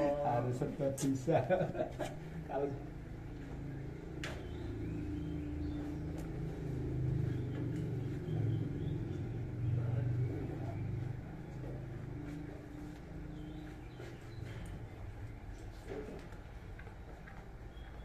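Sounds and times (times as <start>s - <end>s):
low engine-like rumble: 0.2s - 17.7s.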